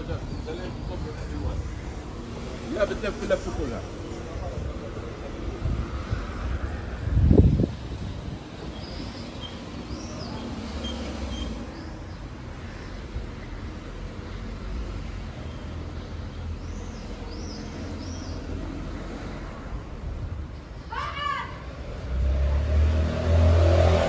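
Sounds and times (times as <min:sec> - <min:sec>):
low traffic rumble: 0:00.0 - 0:24.0.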